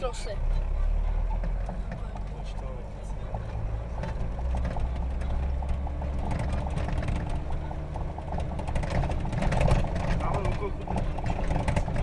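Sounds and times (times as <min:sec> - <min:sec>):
car engine rumbling: 0:00.0 - 0:12.0
car interior rattling: 0:00.0 - 0:12.0.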